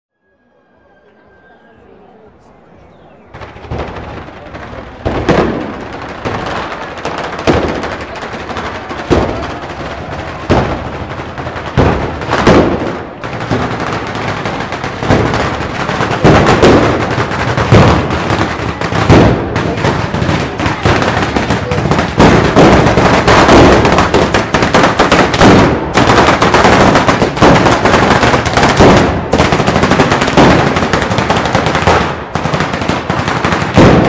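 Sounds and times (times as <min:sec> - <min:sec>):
firecrackers crackling and banging: 0:03.3 - 0:34.0.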